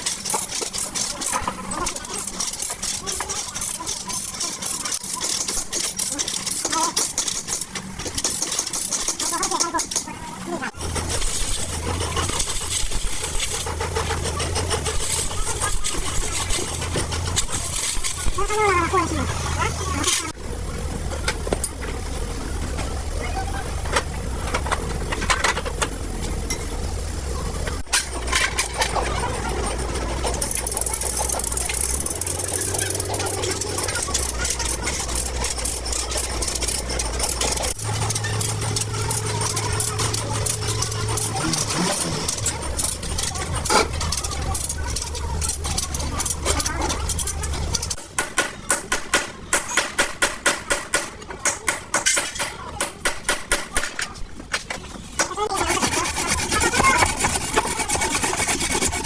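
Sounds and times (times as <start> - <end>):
machinery humming: 0.0 - 48.0, 55.0 - 59.0.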